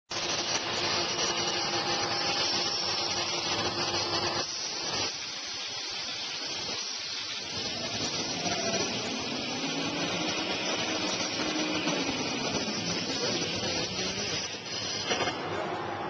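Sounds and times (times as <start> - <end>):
paper converting machine running: 0.1 - 16.0.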